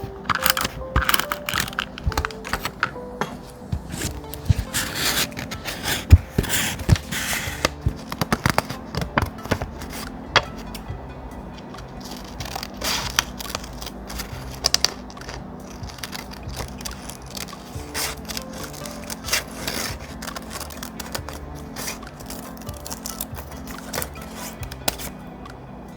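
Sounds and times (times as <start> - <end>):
paper rustling and scraping: 0.0 - 10.8, 11.6 - 25.2
soft background music: 0.0 - 25.9.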